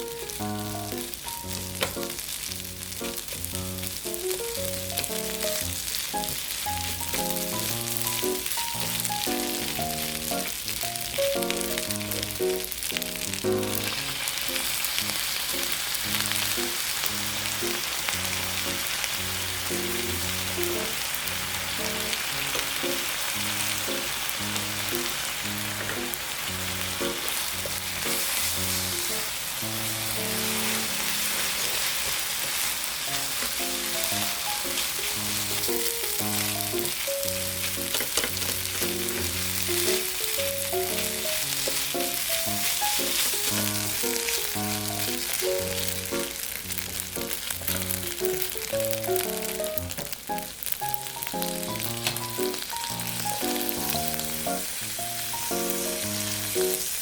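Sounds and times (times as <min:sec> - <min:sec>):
background music: 0:00.0 - 0:31.6, 0:33.1 - 0:56.8
food sizzling in hot oil: 0:00.0 - 0:57.0.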